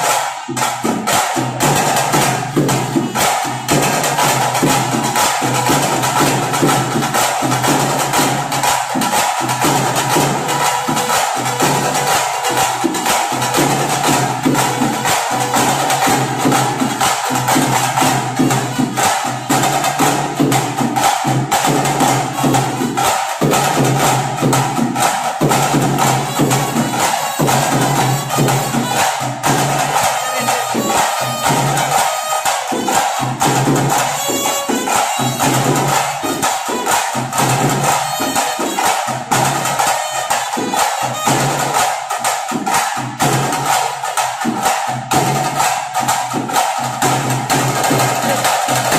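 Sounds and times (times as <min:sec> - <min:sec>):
drums and sticks beaten fast: 0:00.0 - 0:48.9.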